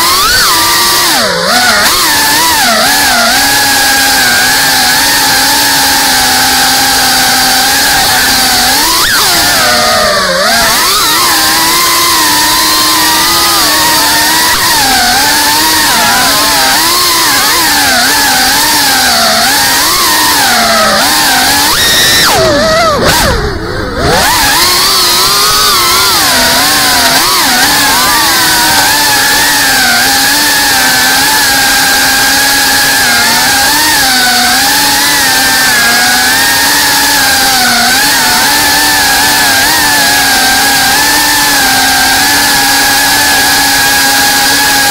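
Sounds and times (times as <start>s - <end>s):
drone motors whining: 0.0s - 44.9s.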